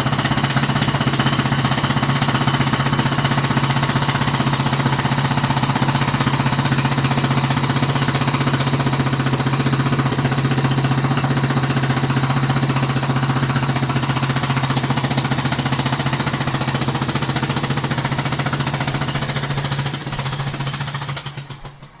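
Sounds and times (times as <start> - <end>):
jackhammer hammering: 0.0 - 22.0.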